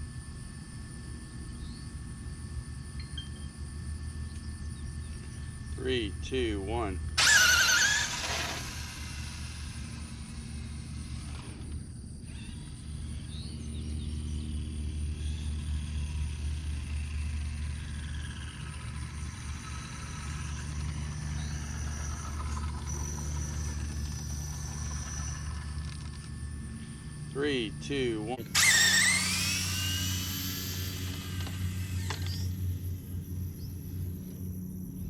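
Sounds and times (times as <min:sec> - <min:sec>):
faint high whines: 0:00.0 - 0:35.0.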